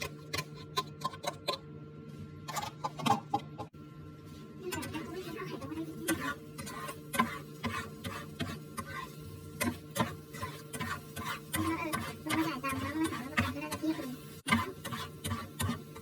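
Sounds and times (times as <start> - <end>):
steady appliance hum: 0.0 - 16.0.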